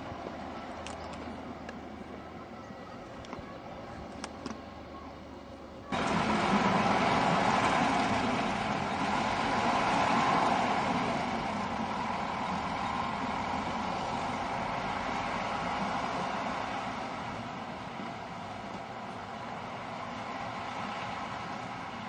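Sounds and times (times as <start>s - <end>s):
railcar engine running: 0.0s - 22.0s.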